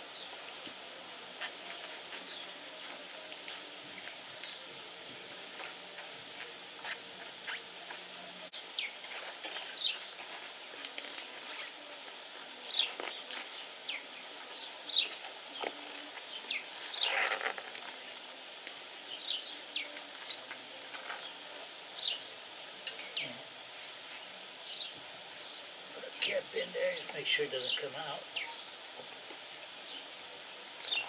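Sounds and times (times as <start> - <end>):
small birds chirping: 5.6 - 31.0.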